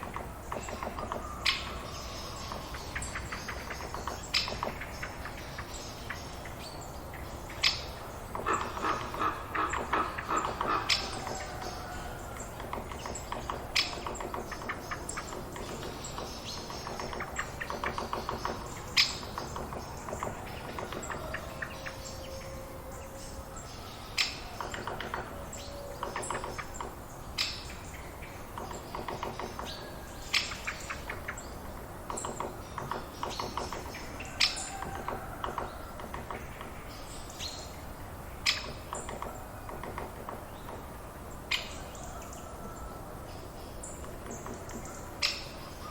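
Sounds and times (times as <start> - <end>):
birds chirping and singing: 0.0 - 45.9.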